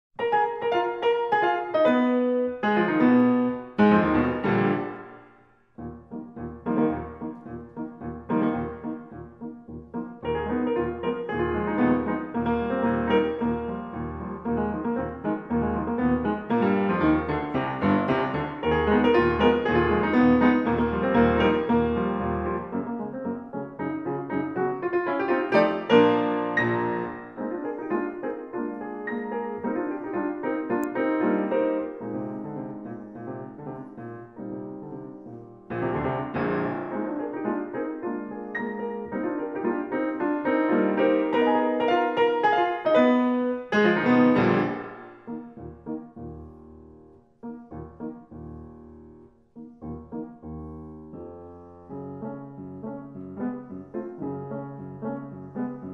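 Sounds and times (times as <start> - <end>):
piano music: 0.2 - 55.9.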